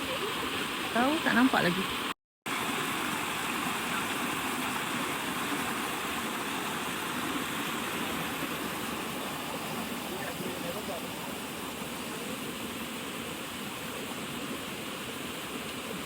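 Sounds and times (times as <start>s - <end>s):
waterfall rushing and splashing: 0.0s - 16.0s.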